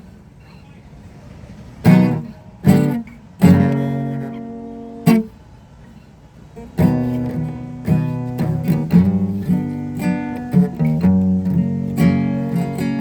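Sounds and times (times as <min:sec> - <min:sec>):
guitar strumming: 0:01.8 - 0:13.0.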